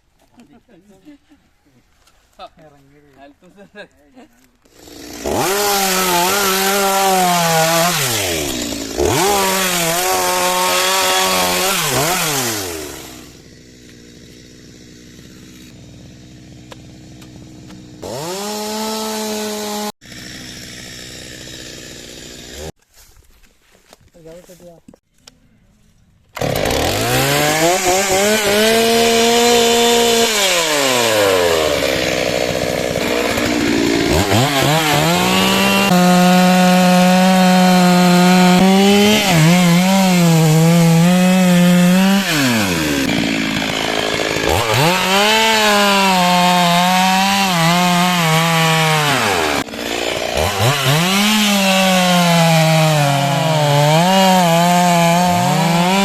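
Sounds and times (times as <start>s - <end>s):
chainsaw cutting wood: 4.6s - 22.8s, 26.3s - 56.0s.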